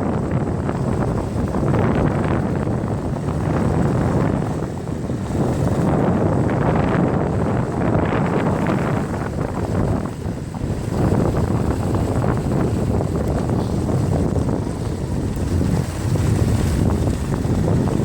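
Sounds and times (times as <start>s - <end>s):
low rumble of moving atv: 0.0s - 18.0s
wind buffeting microphone: 0.0s - 18.0s.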